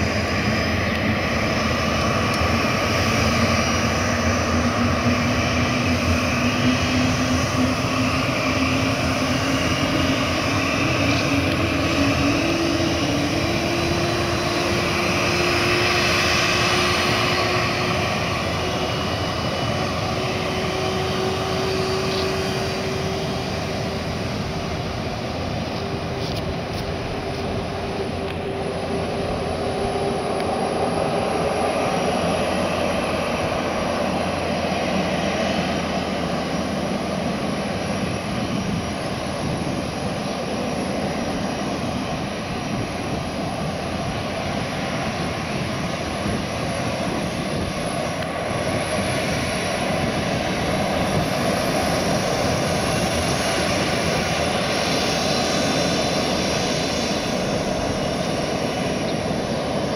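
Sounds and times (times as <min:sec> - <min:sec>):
jet engines idling: 0:00.0 - 0:59.9
rising engine whine: 0:00.0 - 0:59.9.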